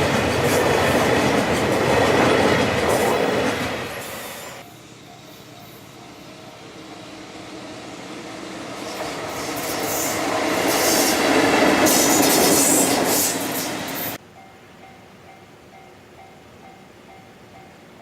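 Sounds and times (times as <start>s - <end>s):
train passing on rails: 0.0s - 18.0s.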